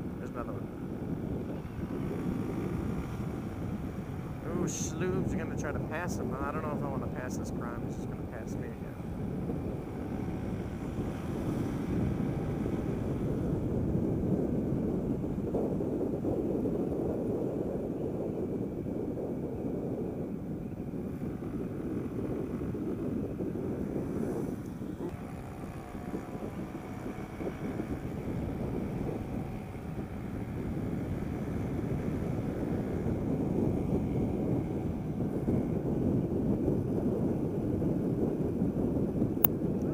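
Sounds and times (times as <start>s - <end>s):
scooter engine running: 0.0s - 39.9s
wind rush on microphone: 0.0s - 39.9s.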